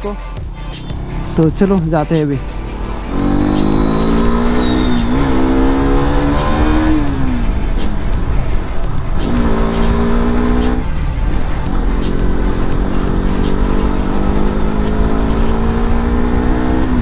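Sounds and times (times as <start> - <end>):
motorcycle engine accelerating: 0.4 - 17.0.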